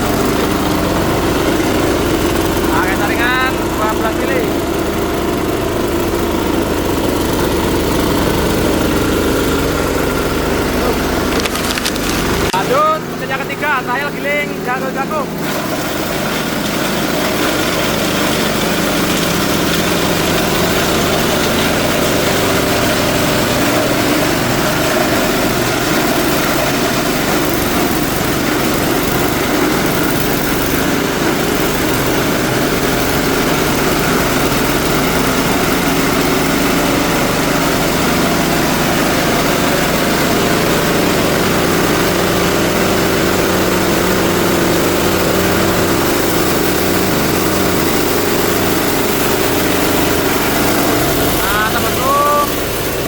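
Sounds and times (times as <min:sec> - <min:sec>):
grinder machine engine running: 0:00.0 - 0:53.0.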